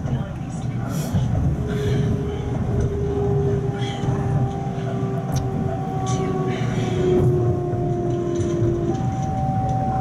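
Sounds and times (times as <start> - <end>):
electric train drive whine: 0.0 - 10.0
wheels rumbling on track: 0.0 - 10.0.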